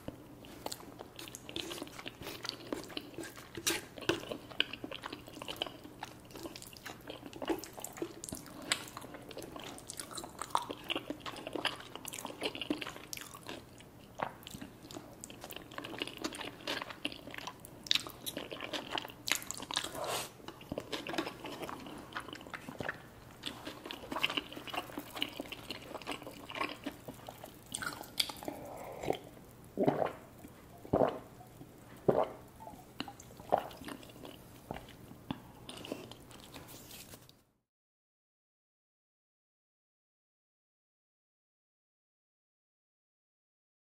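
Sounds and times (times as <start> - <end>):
close-up chewing and mouth smacks: 0.1 - 37.1.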